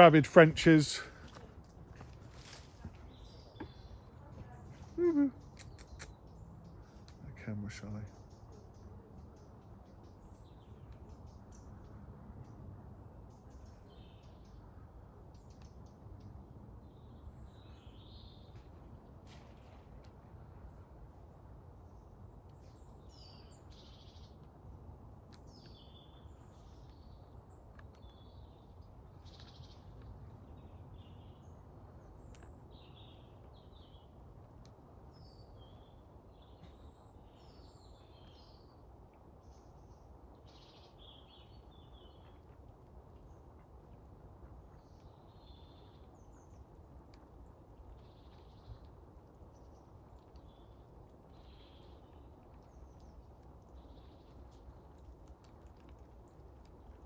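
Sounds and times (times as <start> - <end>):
small birds chirping: 0.0 - 57.0
low background rumble: 8.2 - 57.0.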